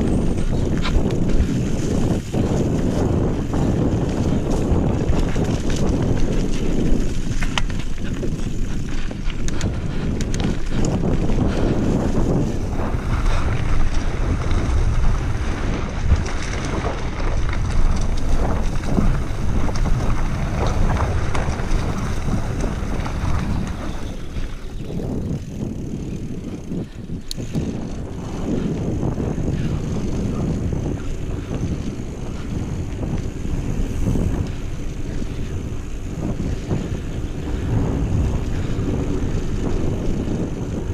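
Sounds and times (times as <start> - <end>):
bike clicks and rattles: 0.0 - 40.9
tyres rumbling on trail: 0.0 - 40.9
wind buffeting microphone: 0.0 - 40.9.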